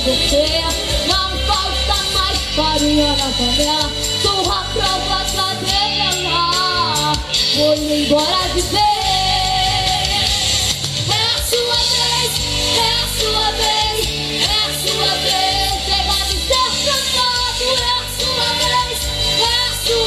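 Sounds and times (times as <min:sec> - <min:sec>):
girl singing into microphone: 0:00.3 - 0:10.4, 0:11.1 - 0:20.0.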